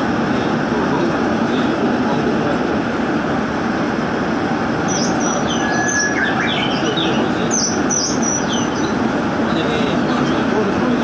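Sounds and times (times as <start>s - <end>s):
train running through tunnel: 0.0s - 11.0s.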